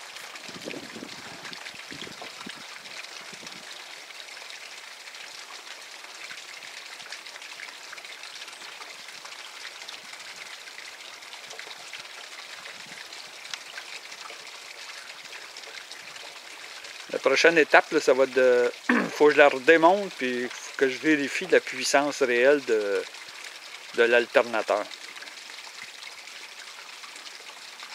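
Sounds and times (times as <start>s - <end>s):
breeze through trees: 0.0s - 27.9s.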